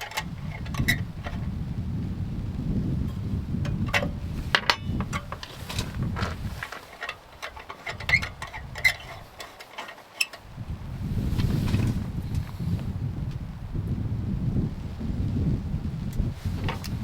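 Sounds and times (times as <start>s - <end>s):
wind rumble on microphone: 0.0s - 9.6s, 10.4s - 17.0s.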